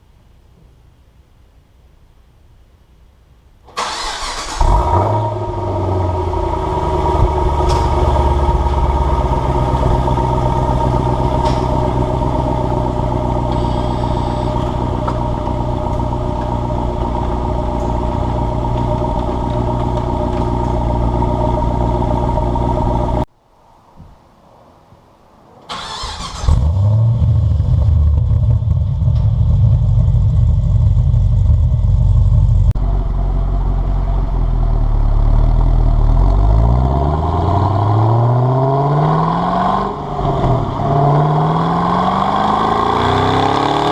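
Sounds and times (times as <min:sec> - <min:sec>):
car engine revving and idling: 0:04.3 - 0:23.3, 0:26.2 - 0:43.9.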